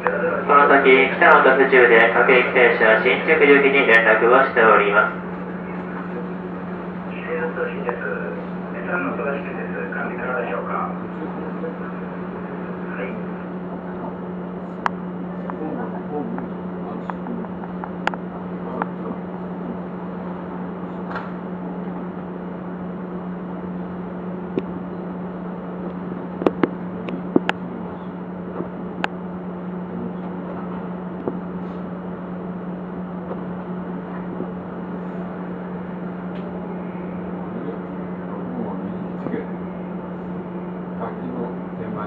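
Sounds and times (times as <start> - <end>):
electric train equipment humming: 0.0 - 42.0.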